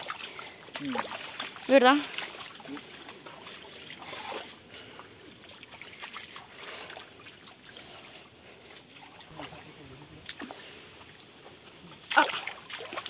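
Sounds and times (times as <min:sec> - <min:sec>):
footsteps wading through water: 0:00.0 - 0:13.0
stream trickling: 0:00.0 - 0:13.0.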